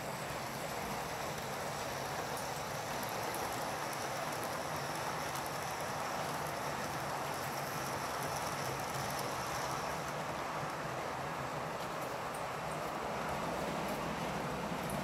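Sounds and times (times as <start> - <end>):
model trains whirring on track: 0.0 - 15.0.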